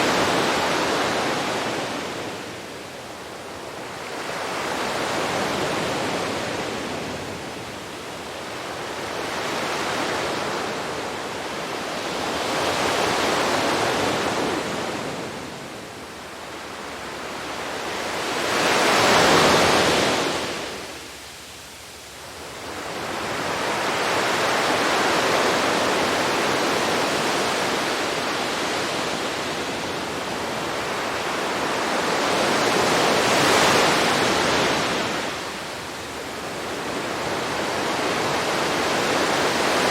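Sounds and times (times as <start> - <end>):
sea waves breaking on beach: 0.0 - 21.1, 22.4 - 39.9.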